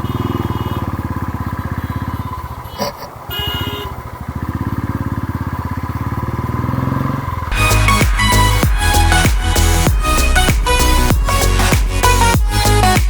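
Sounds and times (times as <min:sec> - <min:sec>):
motorcycle engine thumping: 0:00.0 - 0:13.0.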